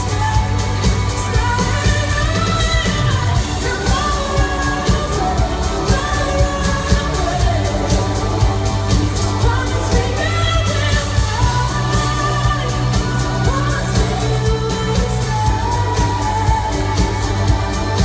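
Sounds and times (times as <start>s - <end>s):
pop-rock band playing: 0.0s - 18.0s
woman singing: 0.0s - 18.0s.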